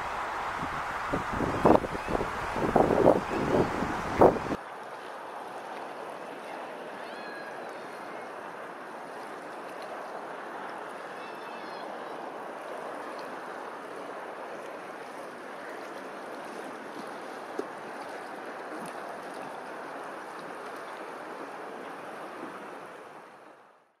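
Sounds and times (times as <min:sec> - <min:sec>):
water lapping: 0:00.0 - 0:23.6.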